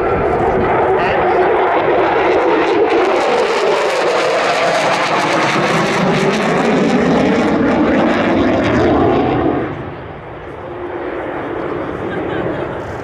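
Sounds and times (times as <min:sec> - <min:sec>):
jet roar with crackle: 0:00.0 - 0:13.0.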